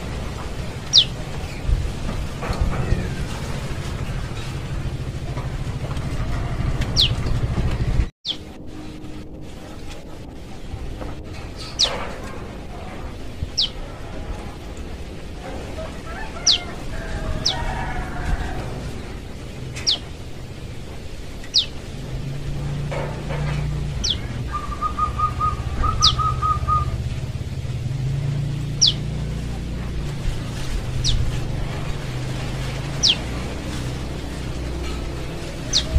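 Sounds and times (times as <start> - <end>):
ticking chirps: 0.0 - 17.7, 18.8 - 35.9.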